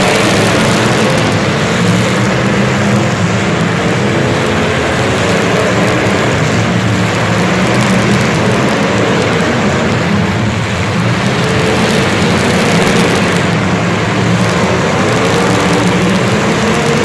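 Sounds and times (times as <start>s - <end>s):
faint engine whine: 0.0s - 17.0s
vehicle engine running: 0.0s - 17.0s.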